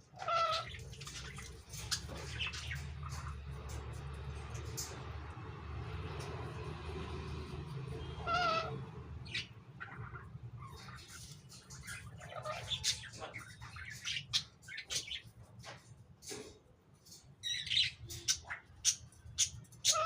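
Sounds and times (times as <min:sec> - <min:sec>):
lories calling: 0:00.0 - 0:05.2, 0:07.1 - 0:15.4, 0:17.4 - 0:20.0.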